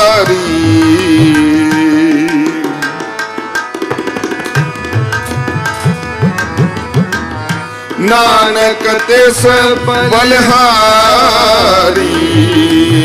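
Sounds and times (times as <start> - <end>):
harmonium chords: 0.0 - 13.0
tabla playing: 0.0 - 13.0.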